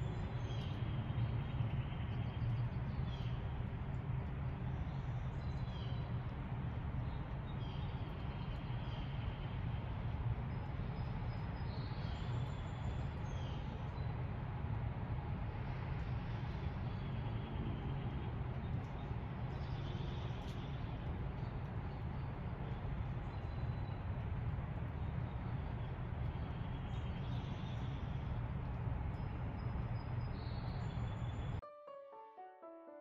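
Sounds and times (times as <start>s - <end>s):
low rumble of distant traffic: 0.0s - 31.6s.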